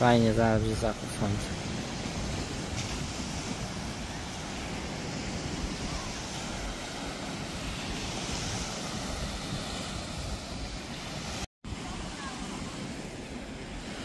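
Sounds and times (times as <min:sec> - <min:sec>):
surf washing onto beach: 0:00.0 - 0:14.0
wind on microphone: 0:00.0 - 0:14.0.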